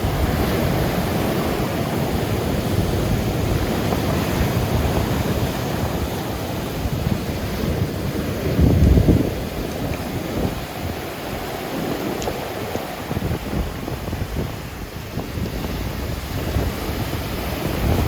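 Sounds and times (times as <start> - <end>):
heavy surf breaking on shore: 0.0 - 18.0
wind buffeting microphone: 0.0 - 18.0.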